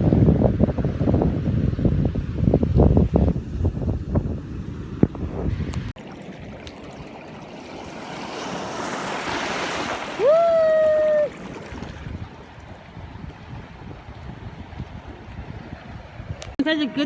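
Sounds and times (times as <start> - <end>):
wind on microphone: 0.0 - 6.7, 9.3 - 16.6
ocean surf washing on beach: 2.1 - 16.4.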